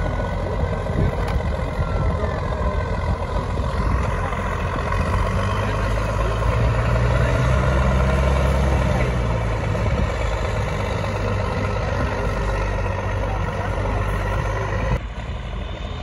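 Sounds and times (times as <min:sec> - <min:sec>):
truck diesel engine under load: 0:00.0 - 0:16.0.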